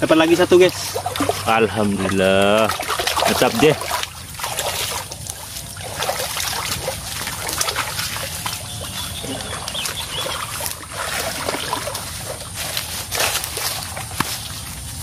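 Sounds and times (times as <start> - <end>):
people wading through water: 0.0 - 15.0.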